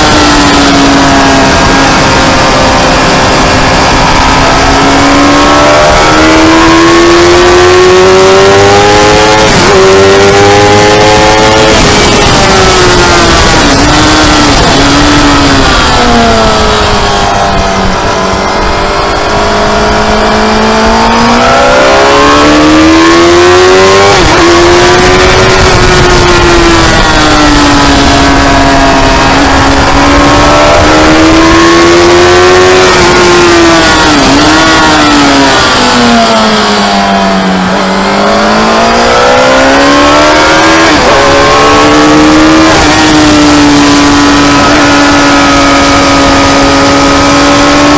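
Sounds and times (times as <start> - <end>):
motorcycle engine racing: 0.0 - 47.9
steady rush of noise: 0.0 - 47.9.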